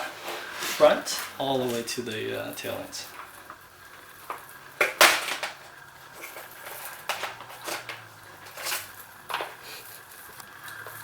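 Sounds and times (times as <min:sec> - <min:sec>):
wiring harness rattling: 0:00.0 - 0:11.0.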